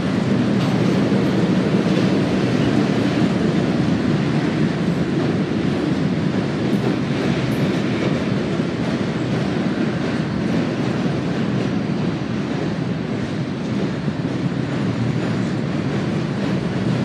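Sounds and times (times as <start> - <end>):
train wheels rumbling on bridge: 0.0 - 17.0.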